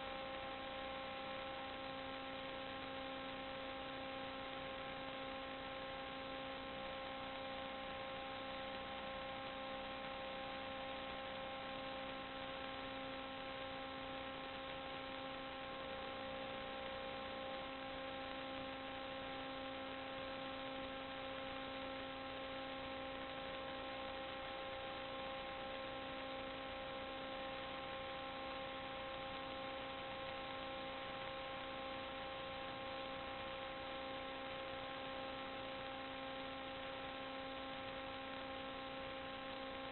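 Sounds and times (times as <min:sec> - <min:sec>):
constant hiss: 0:00.0 - 0:39.9
electrical hum with faint whine: 0:00.0 - 0:39.9.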